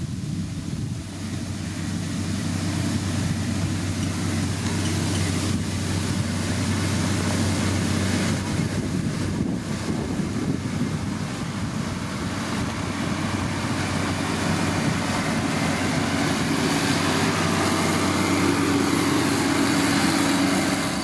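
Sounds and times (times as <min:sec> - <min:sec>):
grader diesel engine running: 0:00.0 - 0:21.0.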